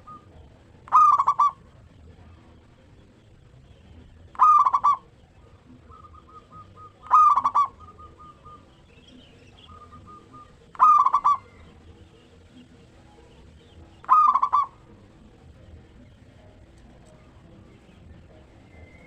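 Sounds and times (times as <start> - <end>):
dove stuttering calls: 0.0 - 19.0
dove trilled coos: 0.0 - 19.0.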